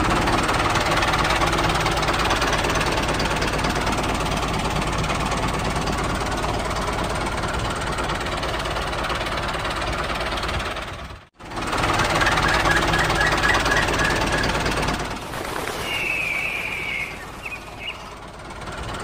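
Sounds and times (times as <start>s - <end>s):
small tractor engine running: 0.0s - 19.0s.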